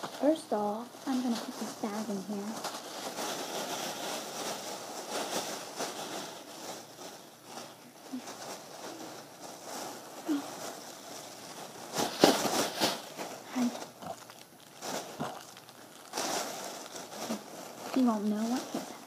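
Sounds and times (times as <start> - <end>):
plastic bags rustling: 0.0 - 19.0.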